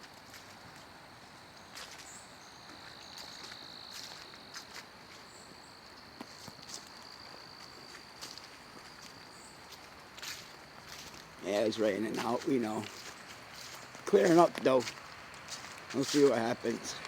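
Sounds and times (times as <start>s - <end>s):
footsteps on a path: 0.0s - 17.0s.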